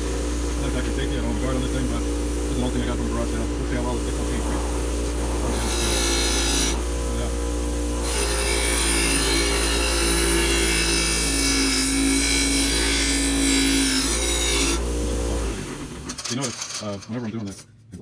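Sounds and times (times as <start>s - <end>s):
bench grinder motor hum: 0.0s - 16.7s.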